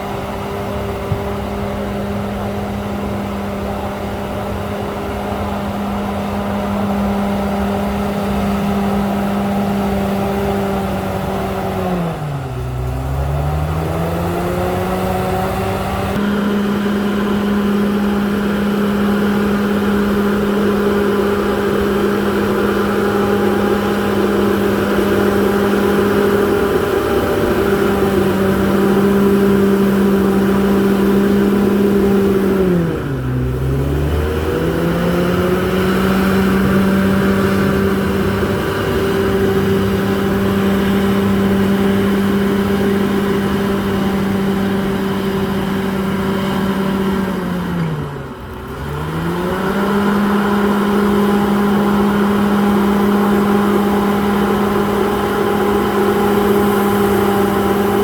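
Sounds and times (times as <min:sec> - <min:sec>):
bulldozer diesel engine revving: 0:00.0 - 0:58.0.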